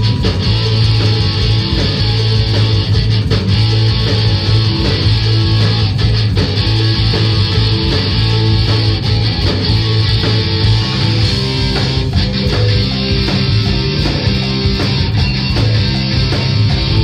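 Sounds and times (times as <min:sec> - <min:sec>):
bass line: 0:00.0 - 0:17.0
drum kit: 0:00.0 - 0:17.0
electric guitars: 0:00.0 - 0:17.0.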